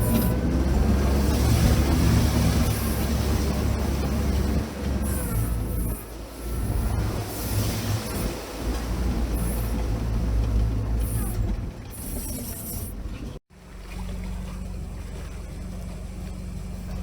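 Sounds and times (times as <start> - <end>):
all-terrain vehicle engine rumbling: 0.0 - 17.0
steady engine hum: 0.0 - 17.0.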